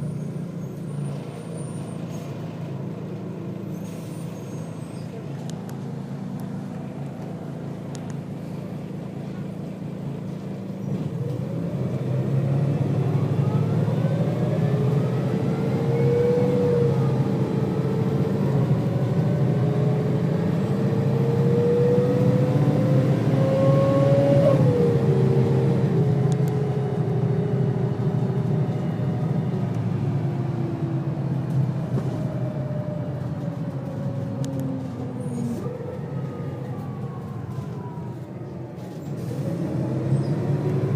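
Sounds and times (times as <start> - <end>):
bus diesel engine pulling hard: 0.0 - 40.9.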